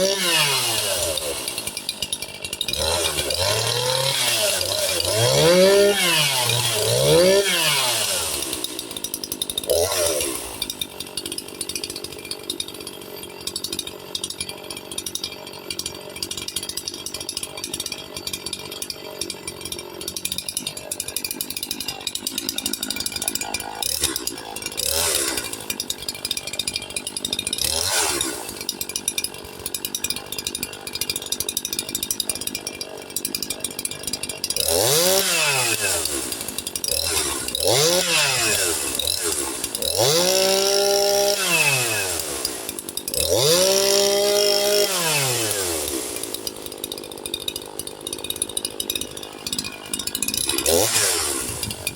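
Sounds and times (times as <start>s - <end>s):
chainsaw idling and revving: 0.0s - 51.9s.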